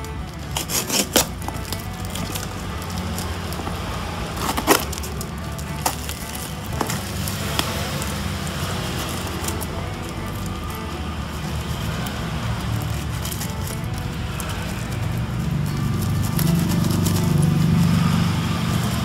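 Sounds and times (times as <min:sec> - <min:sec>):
packing tape sharp cracks: 0:00.0 - 0:19.0
plastic parcel crackling: 0:00.0 - 0:19.0.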